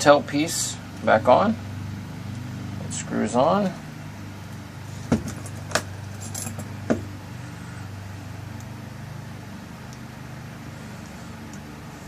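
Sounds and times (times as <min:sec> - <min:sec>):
low hum: 0:00.7 - 0:12.0.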